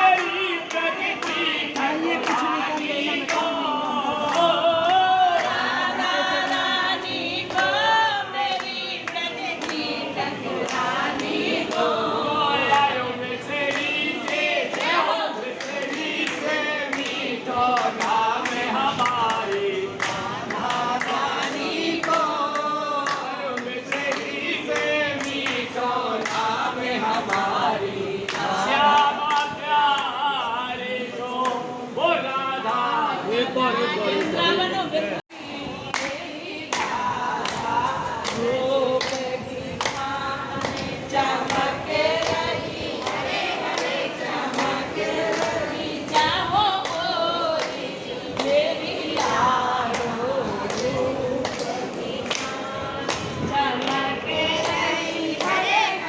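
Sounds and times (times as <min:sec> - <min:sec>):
group singing a hymn: 0:00.0 - 0:56.0.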